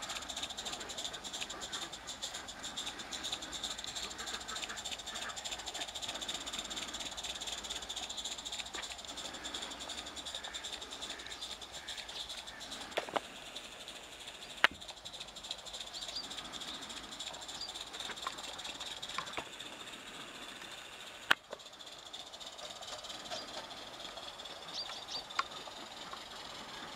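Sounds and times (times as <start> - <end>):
sharp clicks: 0.0 - 26.6
steam locomotive hissing: 0.0 - 26.9.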